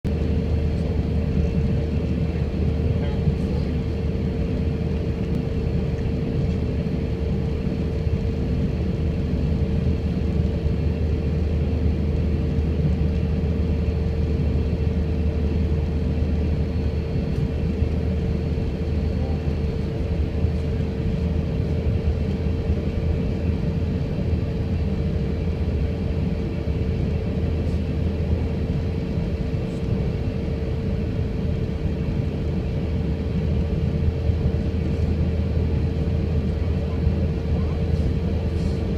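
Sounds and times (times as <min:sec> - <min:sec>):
engine and airflow rumble: 0:00.0 - 0:38.9
droning hum: 0:00.1 - 0:38.9.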